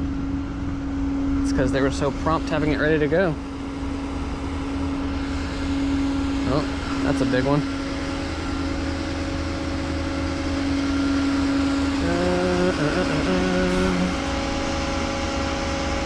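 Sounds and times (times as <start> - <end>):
higher machine tone: 0.0 - 16.0
vehicle engine idling: 1.4 - 16.0.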